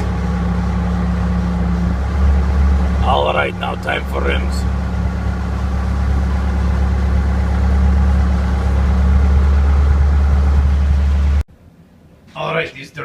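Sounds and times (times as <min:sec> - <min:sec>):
loader engine humming: 0:00.0 - 0:11.5.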